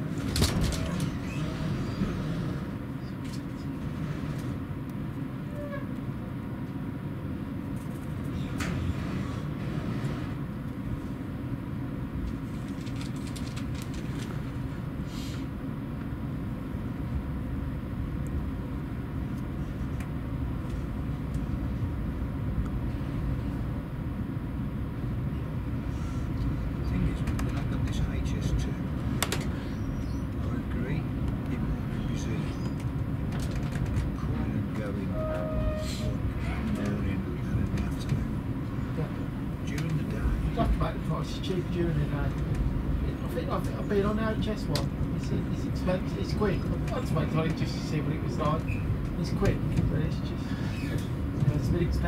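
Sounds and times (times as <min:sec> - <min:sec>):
train coach rumble: 0:00.0 - 0:52.0.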